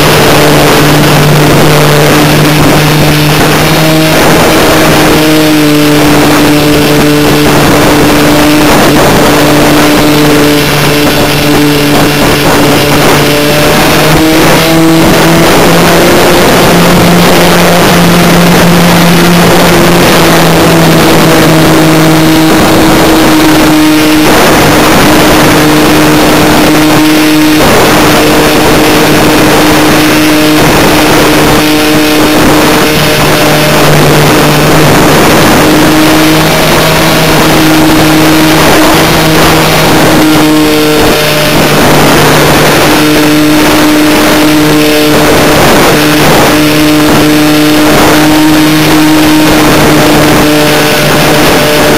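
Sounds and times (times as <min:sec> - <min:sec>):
model plane motor droning: 0:00.0 - 0:51.9.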